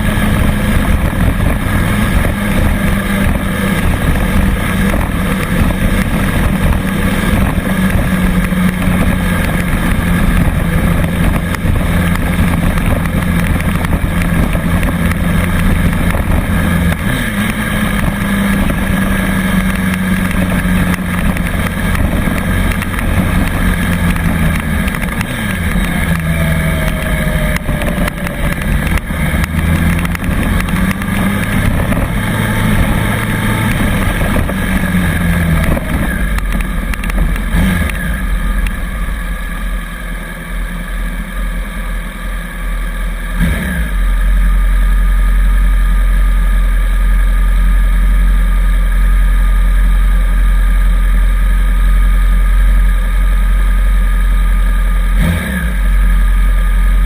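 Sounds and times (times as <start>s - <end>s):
road and wind noise: 0.0s - 57.0s
scooter motor hum: 0.0s - 57.0s.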